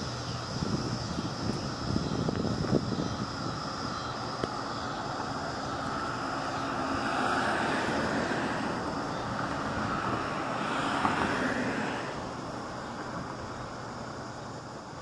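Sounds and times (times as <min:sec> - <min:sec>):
road vehicles passing: 0:00.0 - 0:15.0.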